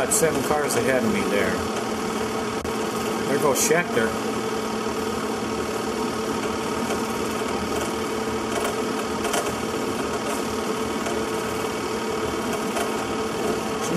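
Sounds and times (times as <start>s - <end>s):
steady mechanical whir: 0.0s - 13.9s.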